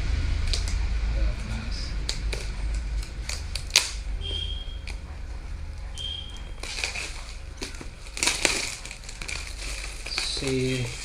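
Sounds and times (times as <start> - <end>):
packaging rustling: 2.1 - 11.0.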